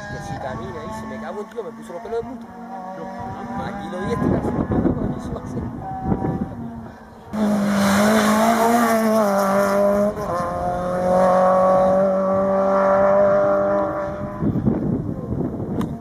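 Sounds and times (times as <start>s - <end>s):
car engine at high revs: 0.1s - 16.0s.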